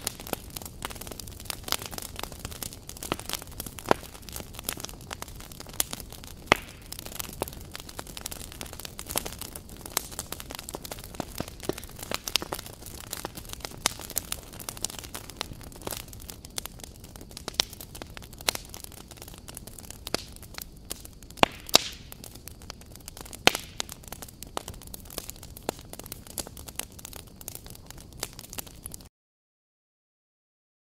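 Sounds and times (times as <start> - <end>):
wood fire crackling: 0.0 - 29.1.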